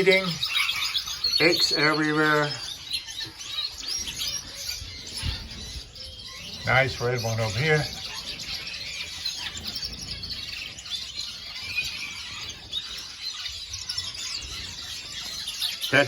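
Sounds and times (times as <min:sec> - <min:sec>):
small birds chirping and twittering: 0:00.0 - 0:16.0.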